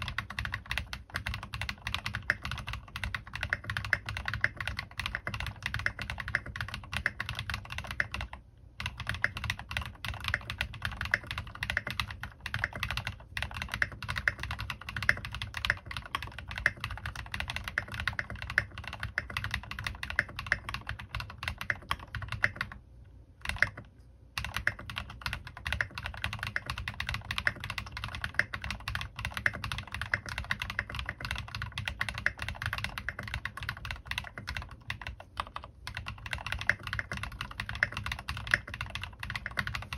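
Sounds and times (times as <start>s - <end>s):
fast mechanical keyboard typing: 0.0s - 22.8s, 23.4s - 39.9s.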